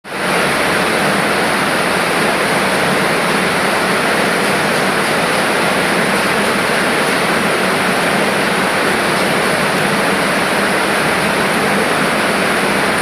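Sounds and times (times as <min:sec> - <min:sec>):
packing machine running: 0:00.1 - 0:13.0.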